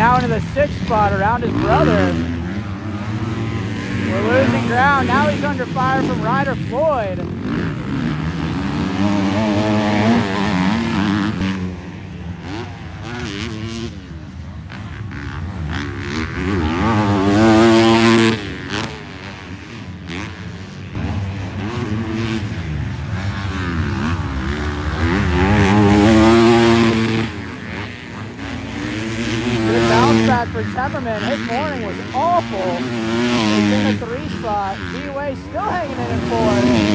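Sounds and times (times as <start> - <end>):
motocross bike engines revving: 0.0 - 36.9.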